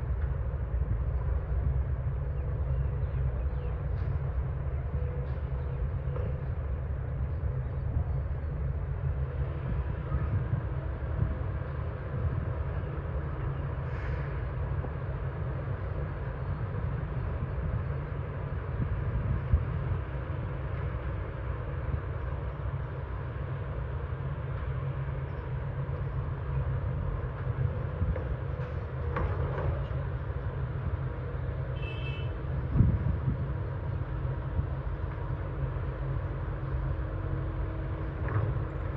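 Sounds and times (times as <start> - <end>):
diesel machinery rumbling: 0.0 - 38.9.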